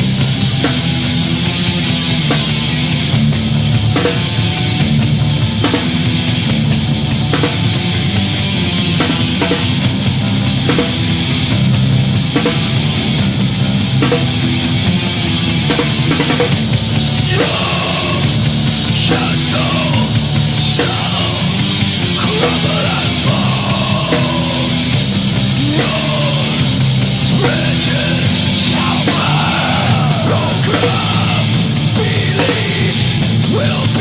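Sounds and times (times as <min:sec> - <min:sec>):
heavy metal band playing: 0:00.0 - 0:34.0.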